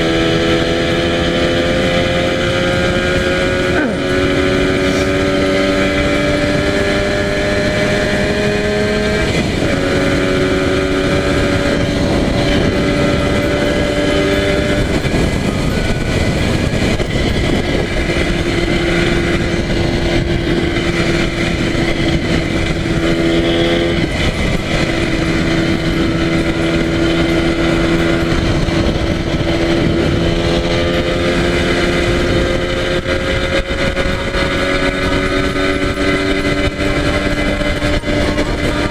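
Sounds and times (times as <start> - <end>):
two-stroke motorcycle engine: 0.0 - 38.9
wind rush: 0.0 - 38.9.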